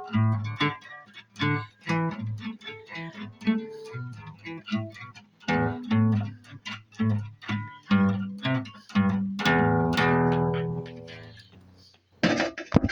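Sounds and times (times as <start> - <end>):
guitar plucked notes and strums: 0.0 - 11.9.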